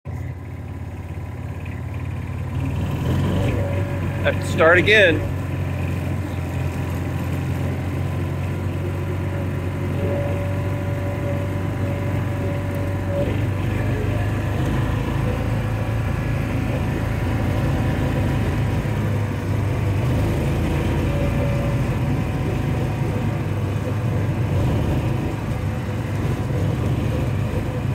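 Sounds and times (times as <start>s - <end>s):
utility vehicle engine running: 0.0s - 27.9s.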